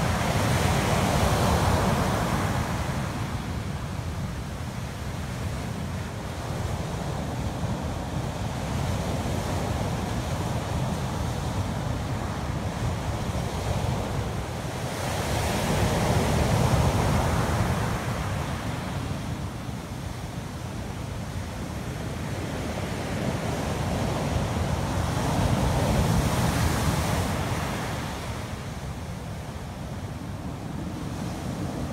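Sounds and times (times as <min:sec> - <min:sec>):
ocean surf breaking on beach: 0:00.0 - 0:31.9.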